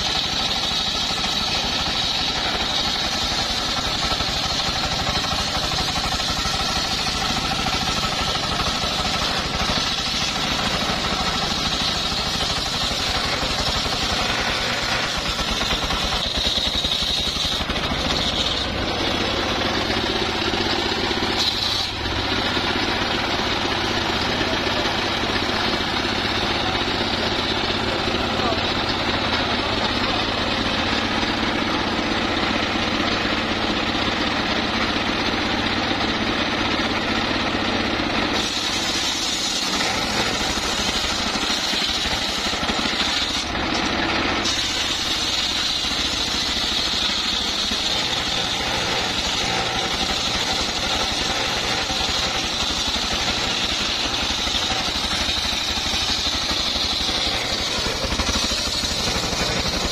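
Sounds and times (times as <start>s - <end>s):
diesel engine running: 0.0s - 59.9s
saw blade cutting whine: 0.0s - 59.9s.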